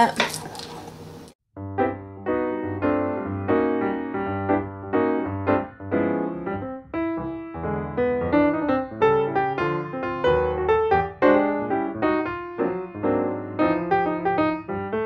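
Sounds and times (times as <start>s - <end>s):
keyboard melody with bass line: 1.6s - 15.0s.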